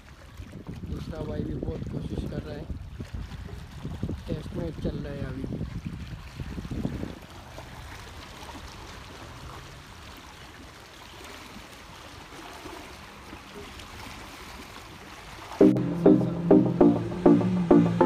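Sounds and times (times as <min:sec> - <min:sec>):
small waves lapping against rocks: 0:00.0 - 0:15.6.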